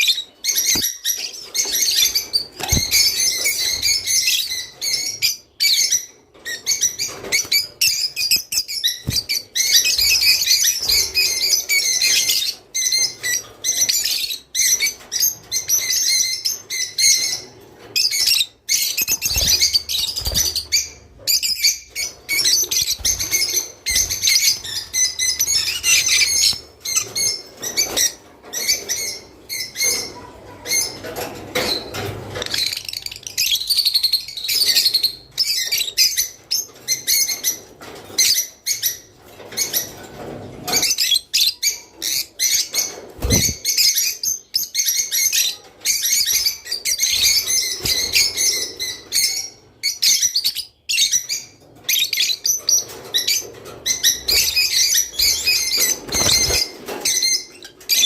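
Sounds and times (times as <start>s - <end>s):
flock of lovebirds chirping: 0.0s - 58.0s.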